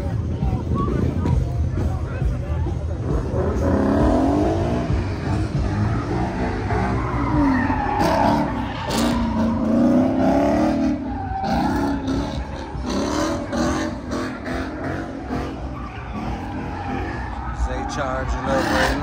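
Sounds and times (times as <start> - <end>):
car engine rumbling: 0.0 - 19.0
car tyres squealing: 3.0 - 19.0.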